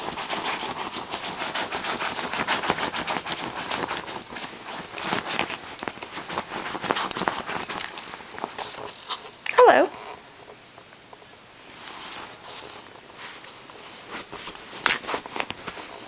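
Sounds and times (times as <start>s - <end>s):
paws scratching blankets: 0.0s - 9.4s, 11.6s - 16.0s.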